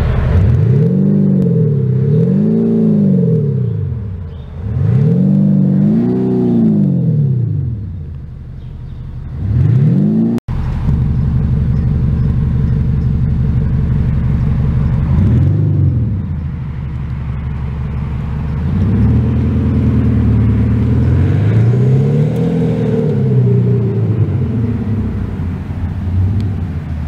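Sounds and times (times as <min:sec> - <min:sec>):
artificial exhaust note: 0:00.0 - 0:27.0
diesel car engine revving: 0:00.0 - 0:27.0.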